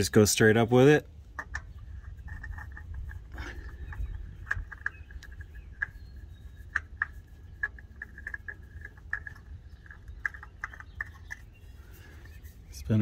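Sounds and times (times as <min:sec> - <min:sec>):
oil filter clicking and scraping: 0:00.0 - 0:13.0.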